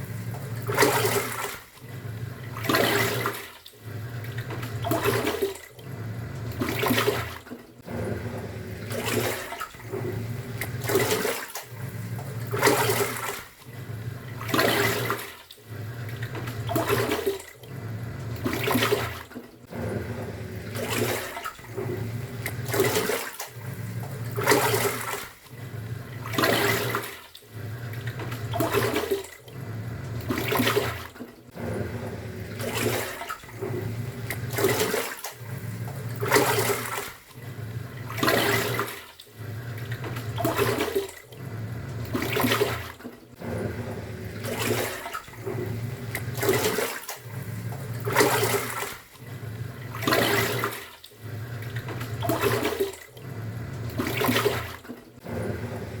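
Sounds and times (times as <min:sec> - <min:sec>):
washing machine motor hum: 0:00.0 - 0:56.0
water sloshing in washing machine: 0:00.0 - 0:56.0.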